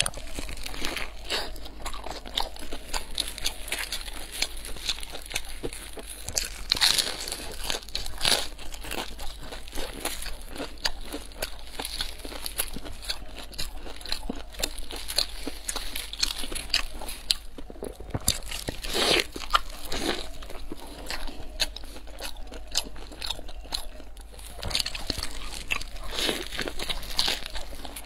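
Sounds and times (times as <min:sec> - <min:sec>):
crunching and chewing flatbread: 0:00.0 - 0:28.0.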